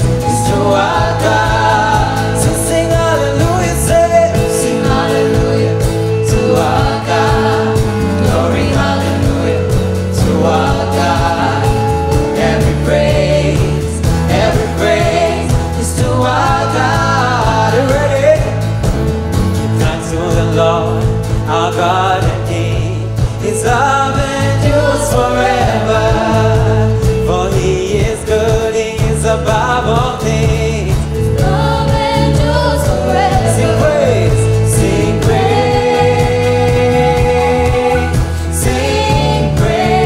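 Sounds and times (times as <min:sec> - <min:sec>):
gospel singing: 0:00.0 - 0:40.0
instrumental backing with bass: 0:00.0 - 0:40.0.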